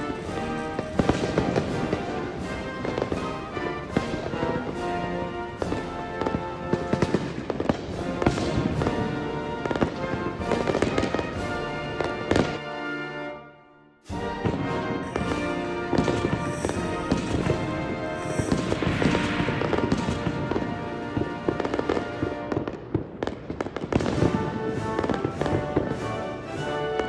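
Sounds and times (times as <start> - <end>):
fireworks bangs and crackling: 0.0 - 13.2, 14.0 - 27.0
background music: 0.0 - 27.0.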